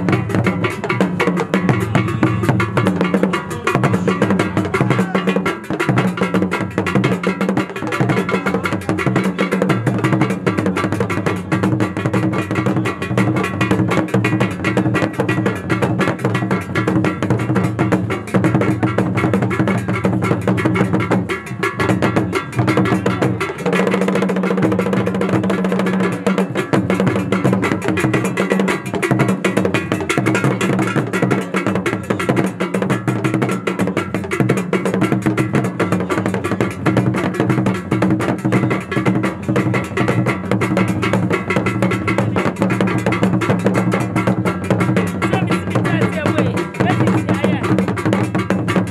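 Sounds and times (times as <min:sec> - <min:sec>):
drums: 0:00.0 - 0:48.9.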